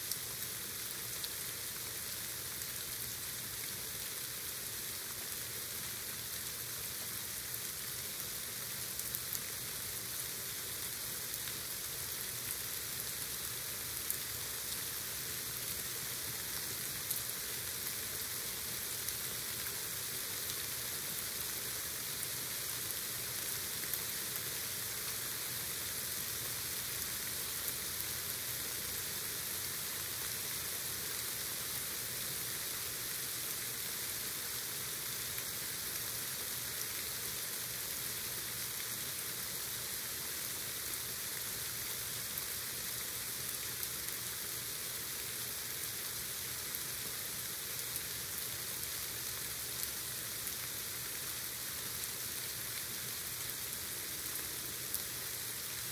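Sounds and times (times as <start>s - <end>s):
heavy rain hissing: 0.0s - 55.9s.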